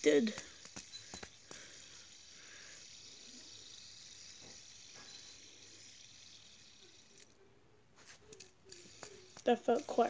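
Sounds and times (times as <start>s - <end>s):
fidget spinner whirring hiss: 0.0s - 7.4s, 8.0s - 10.0s.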